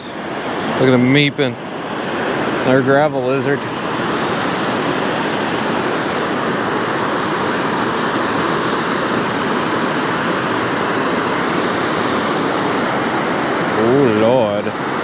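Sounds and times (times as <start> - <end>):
water roaring through spillway: 0.0 - 15.0.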